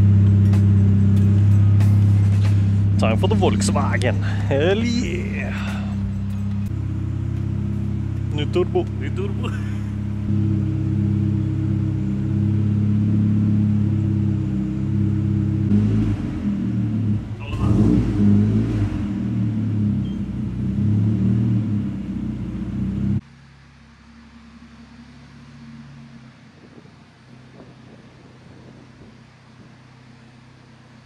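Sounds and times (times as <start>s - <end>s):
car engine running on dyno: 0.0s - 31.0s.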